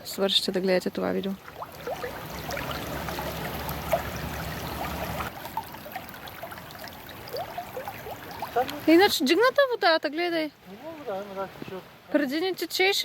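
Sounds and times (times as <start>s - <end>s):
river water rippling and trickling: 0.0s - 13.0s.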